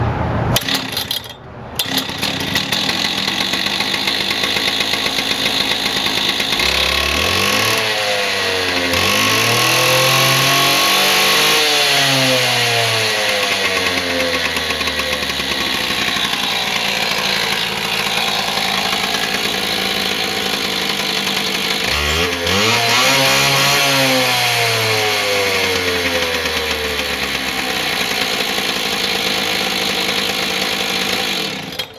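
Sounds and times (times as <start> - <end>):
petrol cut-off saw revving: 0.4 - 31.9.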